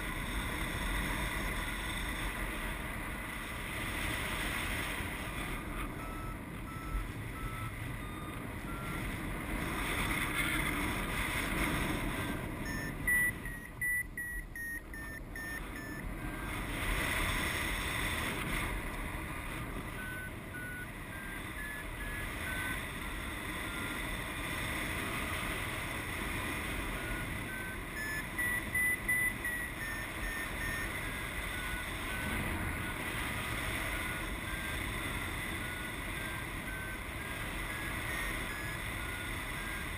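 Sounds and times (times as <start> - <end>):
variometer beeping: 5.0 - 39.9.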